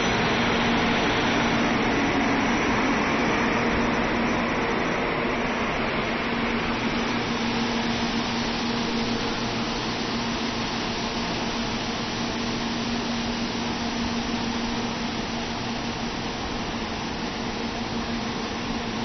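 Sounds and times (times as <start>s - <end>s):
train moving slowly: 0.0s - 19.0s.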